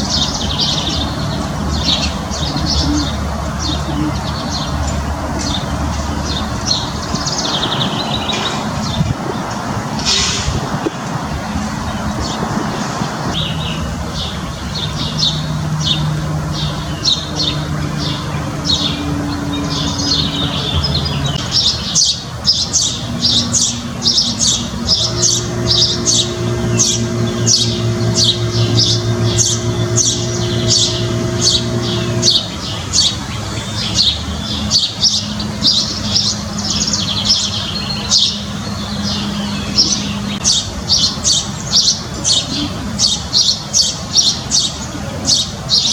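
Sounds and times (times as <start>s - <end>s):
steady low hum: 0.0s - 40.9s
birds chirping and squawking: 0.0s - 45.9s.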